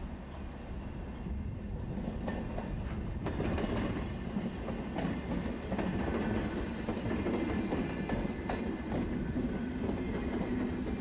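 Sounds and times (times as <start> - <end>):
train rolling past: 0.0 - 11.0
wheels clacking over rail joints: 2.0 - 11.0.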